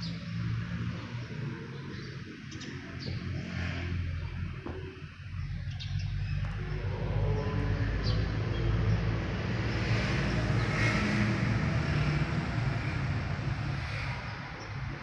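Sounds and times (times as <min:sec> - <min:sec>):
low rumbling: 0:02.7 - 0:15.0.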